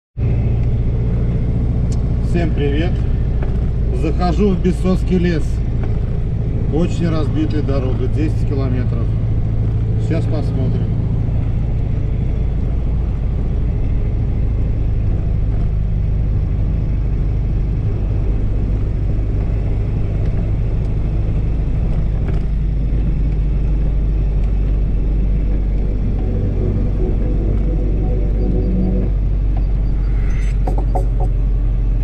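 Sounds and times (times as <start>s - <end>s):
vehicle engine and road rumble: 0.2s - 32.0s.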